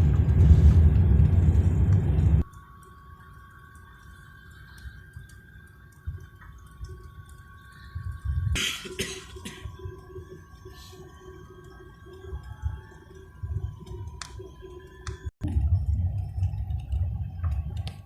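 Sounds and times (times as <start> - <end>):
low rumble: 0.0 - 2.7, 4.7 - 18.0
jet engines whining: 0.0 - 18.0.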